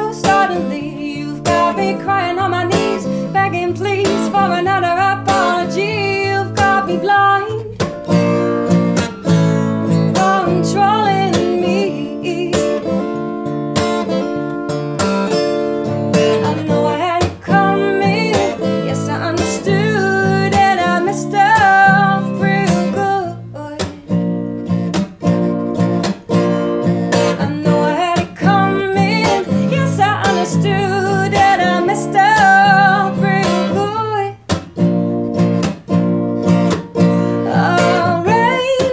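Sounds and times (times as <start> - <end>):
woman singing: 0.0 - 13.6, 15.8 - 24.5, 26.8 - 35.2, 36.7 - 38.9
strummed acoustic guitar: 0.0 - 38.9.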